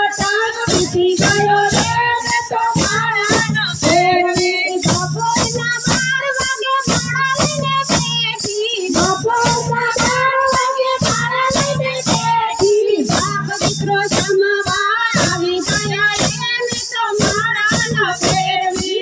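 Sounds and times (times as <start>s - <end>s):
women singing devotional song: 0.0s - 19.0s
wooden clappers with jingles: 0.0s - 19.0s.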